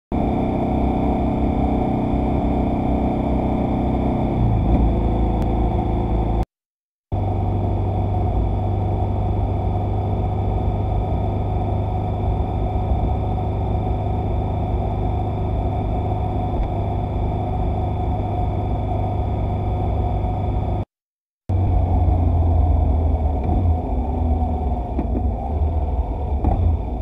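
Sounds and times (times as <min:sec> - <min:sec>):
road and wind noise: 0:00.1 - 0:06.4, 0:07.1 - 0:20.8, 0:21.5 - 0:27.0
vehicle engine running: 0:00.1 - 0:06.4, 0:07.1 - 0:20.8, 0:21.5 - 0:27.0.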